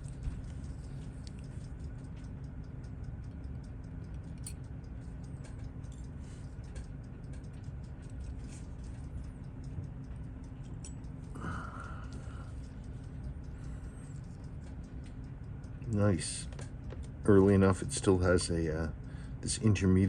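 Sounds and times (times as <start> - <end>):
small tools clicking on metal parts: 0.0 - 20.0
steady low hum: 0.0 - 20.0.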